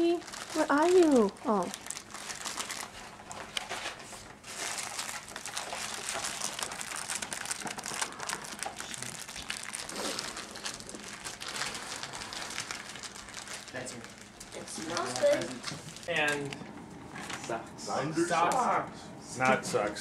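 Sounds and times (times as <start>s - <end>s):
wrapping paper crinkling: 0.0s - 16.5s.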